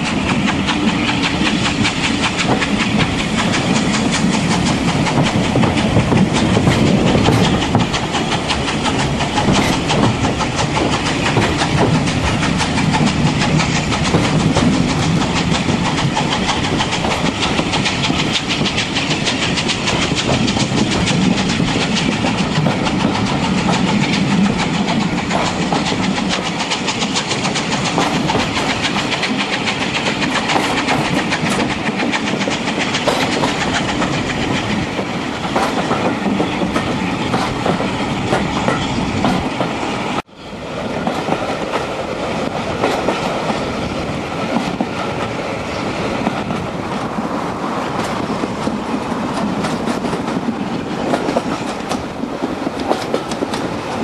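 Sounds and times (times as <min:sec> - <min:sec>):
wheels clicking over rail joints: 0:00.0 - 0:39.9, 0:40.9 - 0:54.0
steam train rushing: 0:00.0 - 0:54.0.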